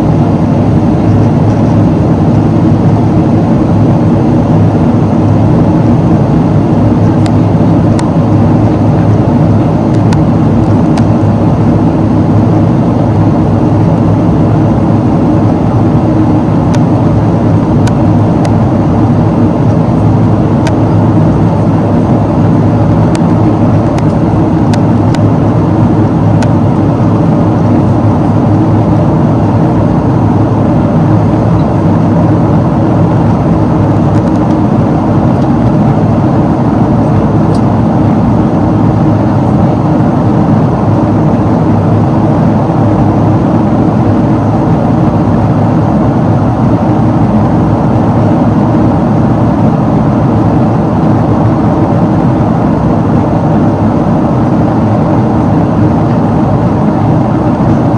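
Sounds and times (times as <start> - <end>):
jet engine running: 0.0 - 57.9.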